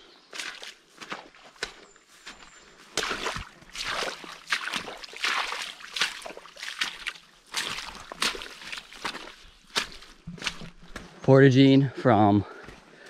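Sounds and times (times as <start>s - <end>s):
boots squelching through puddles: 0.0s - 11.5s, 12.5s - 13.0s.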